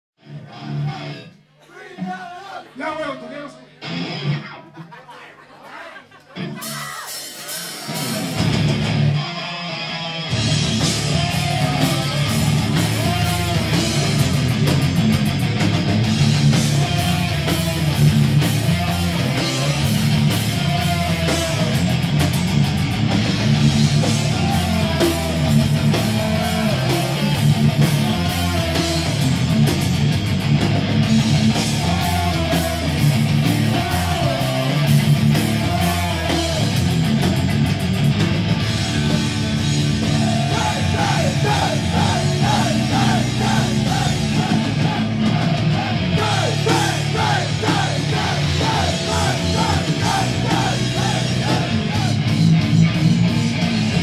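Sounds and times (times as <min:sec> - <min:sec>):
metal band playing live: 0:00.2 - 0:01.3, 0:03.8 - 0:04.9, 0:06.2 - 0:54.0.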